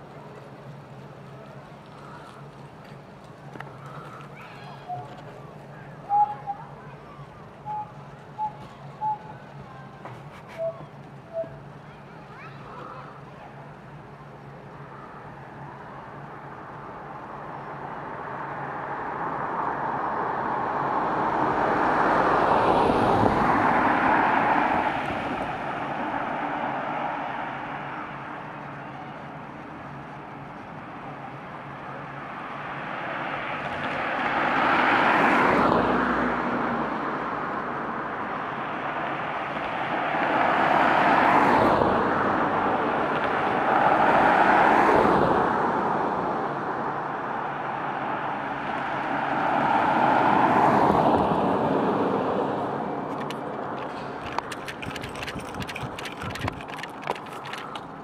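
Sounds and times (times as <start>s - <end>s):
vehicles driving over crossing: 0.0s - 58.0s.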